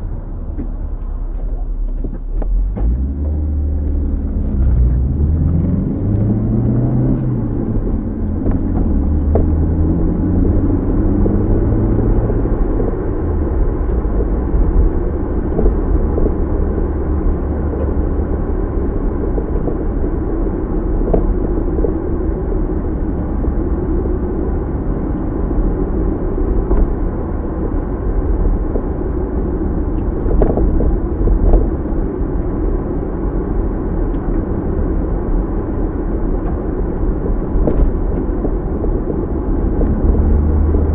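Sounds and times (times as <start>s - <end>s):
car engine and tyre rumble: 0.0s - 40.9s.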